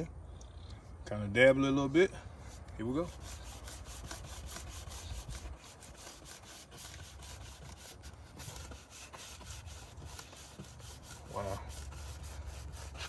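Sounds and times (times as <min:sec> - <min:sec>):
rag rubbing on plastic: 0:02.4 - 0:13.0.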